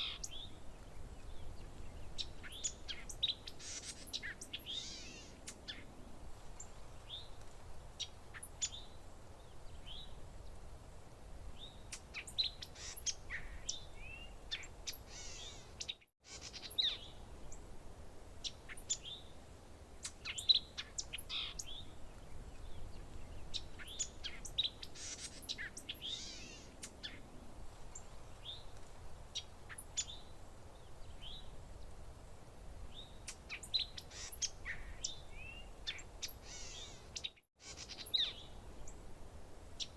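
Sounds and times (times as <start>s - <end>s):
faint low hiss: 0.0s - 39.9s
songbirds chirping: 0.0s - 39.9s.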